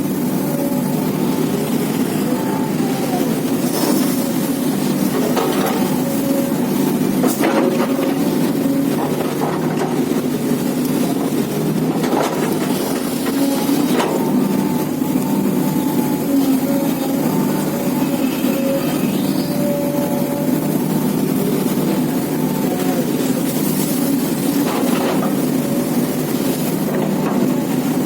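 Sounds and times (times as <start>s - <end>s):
excavator diesel engine: 0.0s - 28.0s
mechanical whine: 0.0s - 28.0s.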